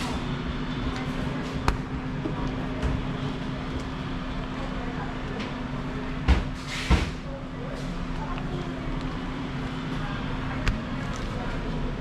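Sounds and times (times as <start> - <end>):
diffuse hubbub: 0.0 - 12.0.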